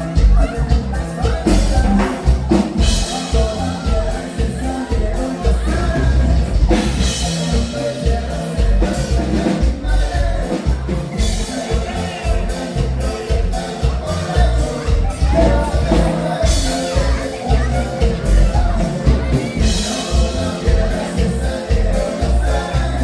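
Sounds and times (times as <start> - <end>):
live band playing: 0.0 - 23.0
person singing: 0.0 - 23.0.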